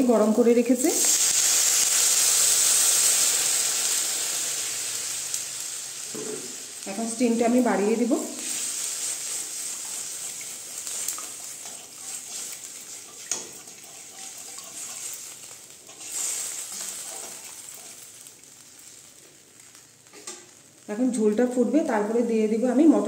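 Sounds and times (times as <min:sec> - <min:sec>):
curry sizzling in metal pan: 0:00.0 - 0:23.0.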